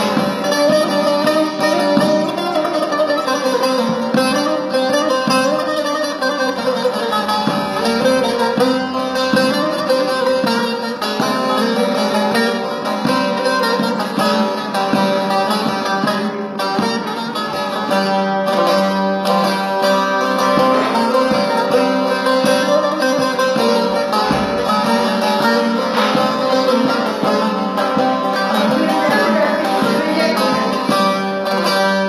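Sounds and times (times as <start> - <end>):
instrumental accompaniment: 0.0 - 32.0
plucked string instrument melody: 0.0 - 32.0.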